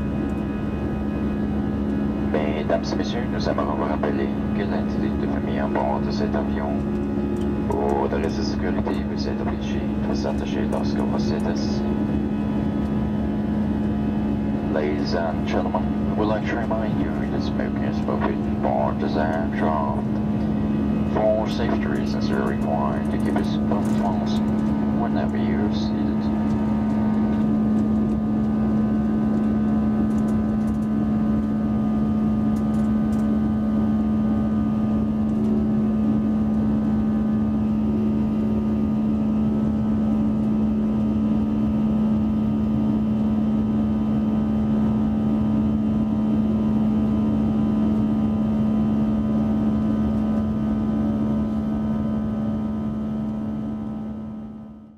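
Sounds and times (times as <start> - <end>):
jet engine drone in cabin: 0.0 - 54.9.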